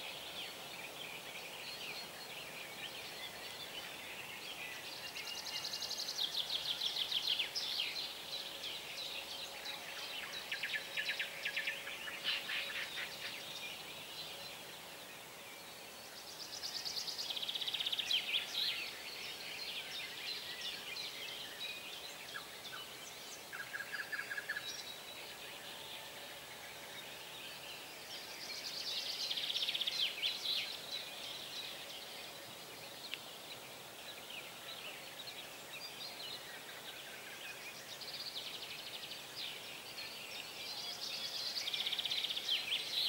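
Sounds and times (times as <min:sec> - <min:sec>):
faint background hiss: 0:00.0 - 0:43.0
songbirds singing: 0:00.0 - 0:43.0.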